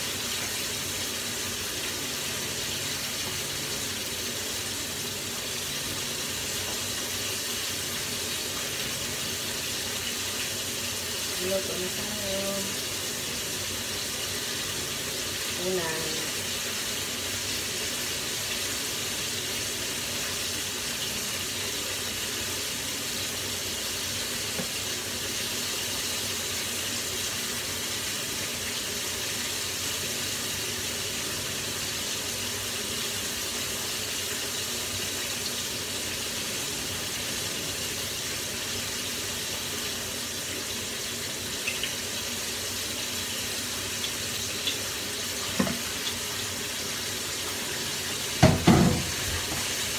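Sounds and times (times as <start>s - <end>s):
chicken sizzling in oil: 0.0s - 49.9s.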